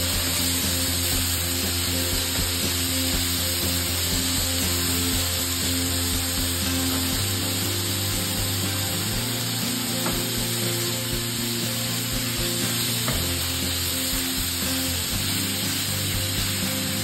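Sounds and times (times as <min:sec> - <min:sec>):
background music: 0:00.0 - 0:17.0
steak sizzling on a griddle: 0:00.0 - 0:17.0.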